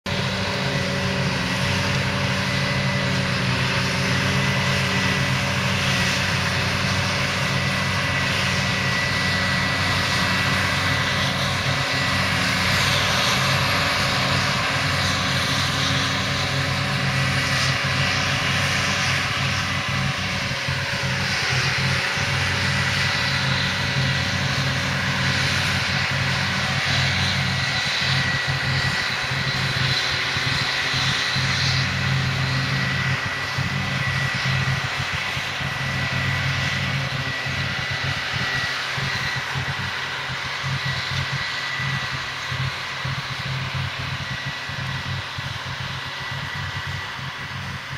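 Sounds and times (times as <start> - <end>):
diesel machinery running: 0.0 - 47.9
machinery whine: 0.1 - 47.9.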